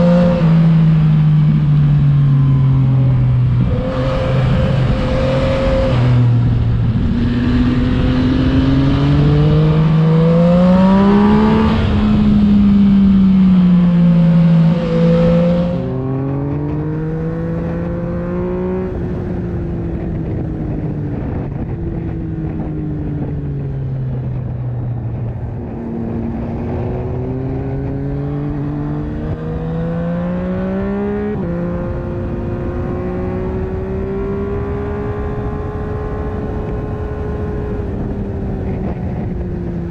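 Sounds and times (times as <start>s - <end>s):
motorcycle engine revving: 0.0s - 24.4s, 25.0s - 39.9s.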